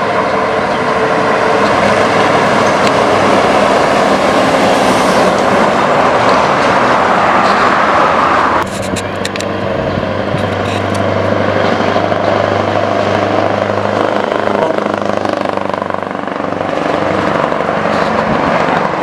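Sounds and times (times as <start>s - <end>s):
truck exhaust drone approaching: 0.0s - 19.0s.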